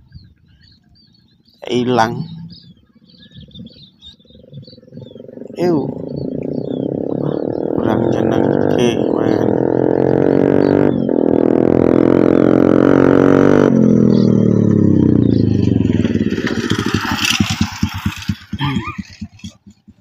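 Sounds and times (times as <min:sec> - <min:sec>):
engine running high-pitched: 0:02.4 - 0:19.4.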